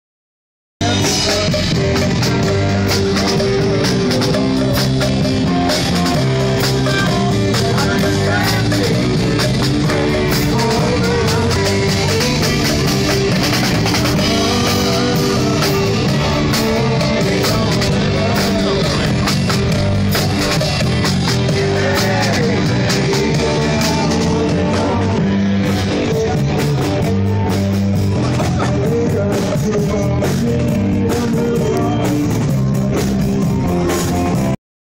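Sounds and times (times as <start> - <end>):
rock music with singing: 0.8 - 34.6.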